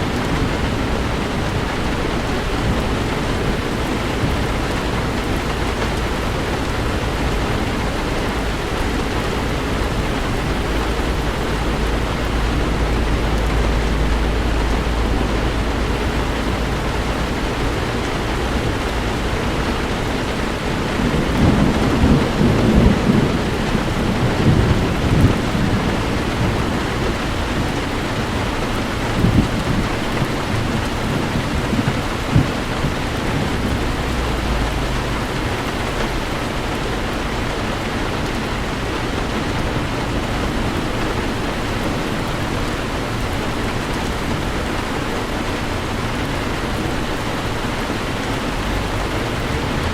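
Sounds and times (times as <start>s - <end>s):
heavy rain on a car: 0.0s - 49.9s
low road drone: 0.0s - 49.9s
thunder rumbling: 0.0s - 49.9s.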